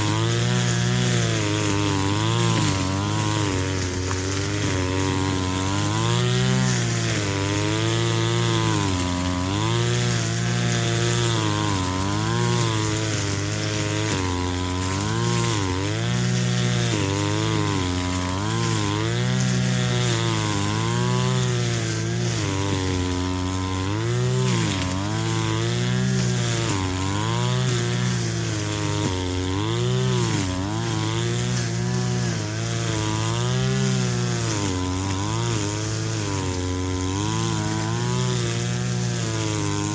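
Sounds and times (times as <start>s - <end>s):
brush cutter engine: 0.0s - 39.9s.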